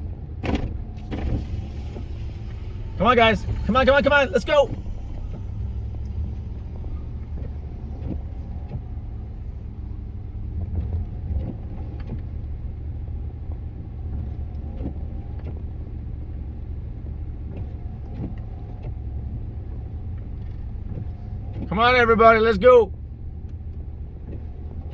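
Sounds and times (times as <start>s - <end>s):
vehicle engine droning: 0.0s - 24.9s.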